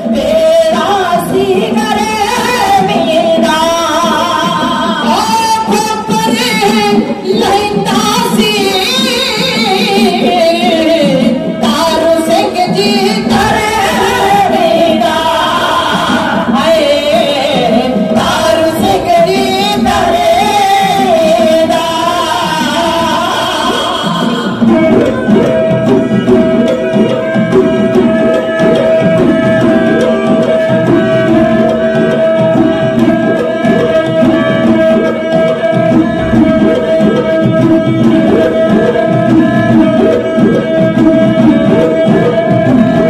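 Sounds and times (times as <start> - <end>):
drums: 0.0 - 43.0
quick hand-drum playing: 0.0 - 43.0.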